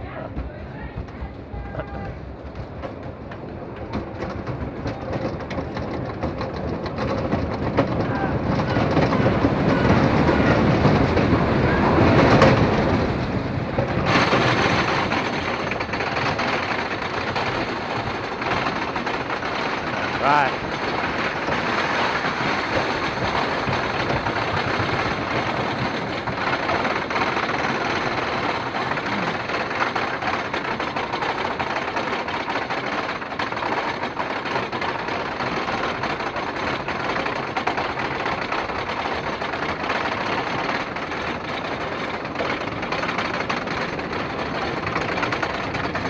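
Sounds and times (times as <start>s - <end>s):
roller coaster chain lift clattering: 0.0s - 46.0s.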